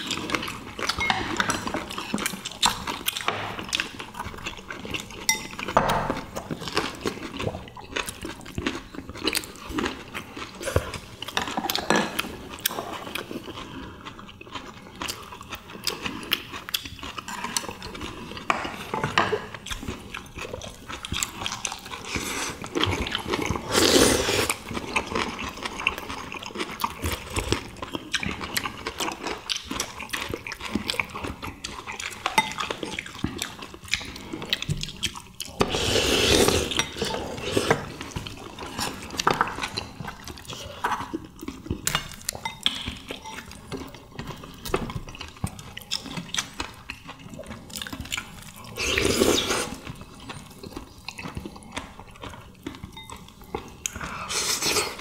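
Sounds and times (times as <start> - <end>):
people chewing and lip-smacking: 0.0 - 55.0.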